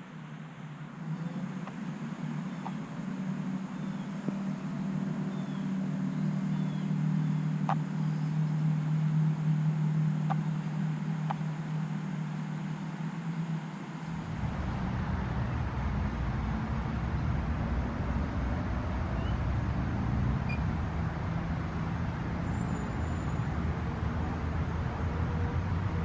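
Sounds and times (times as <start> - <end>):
rumble of road traffic: 0.0 - 26.0.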